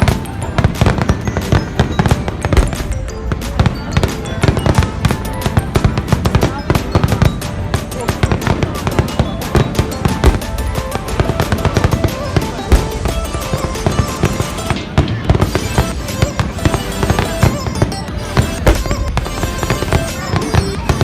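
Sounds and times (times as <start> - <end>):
fireworks bangs and crackles: 0.0 - 21.0
music: 0.0 - 21.0.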